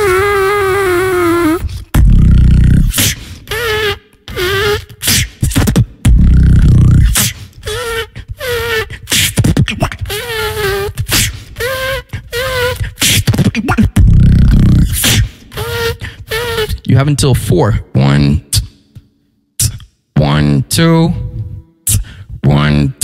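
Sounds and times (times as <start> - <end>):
beatboxing into microphone: 0.0 - 23.0.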